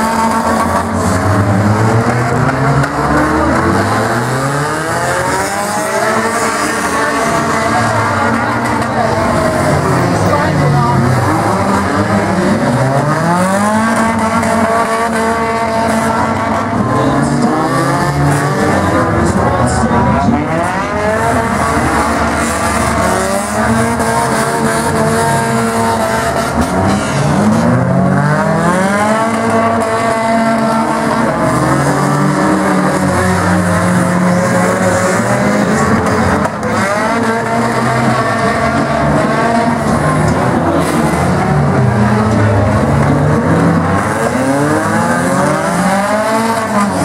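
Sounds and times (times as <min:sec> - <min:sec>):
race car engines revving: 0:00.0 - 0:47.0.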